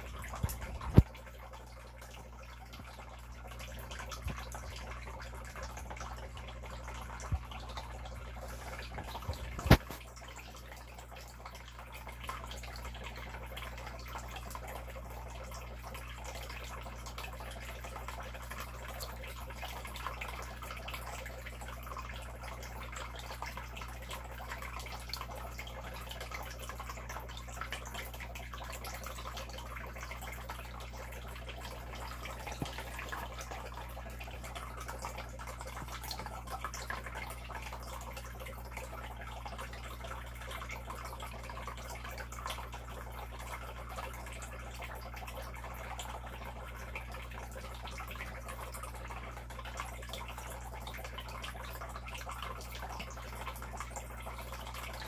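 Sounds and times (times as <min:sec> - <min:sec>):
aquarium water trickling: 0:00.0 - 0:55.0
constant low hum: 0:00.0 - 0:55.0.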